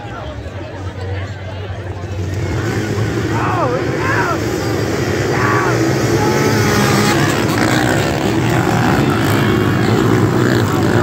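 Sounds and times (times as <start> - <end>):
dirt bike engines revving: 1.6 - 11.0.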